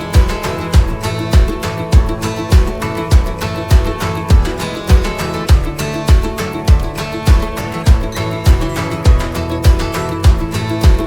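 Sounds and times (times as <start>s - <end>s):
background music with low beat: 0.0s - 11.0s.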